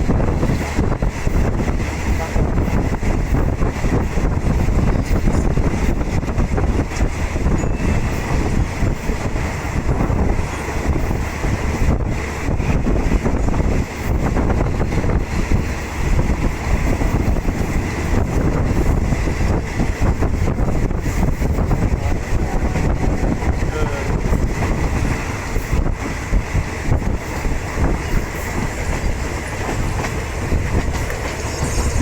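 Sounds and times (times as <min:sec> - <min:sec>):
train wheels rumbling on rails: 0:00.0 - 0:32.0
wind buffeting microphone: 0:00.0 - 0:32.0.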